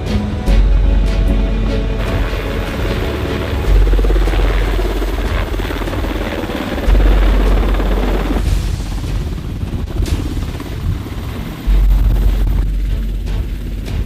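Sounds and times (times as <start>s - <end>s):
low mechanical rumble with flutter: 0.5s - 14.0s.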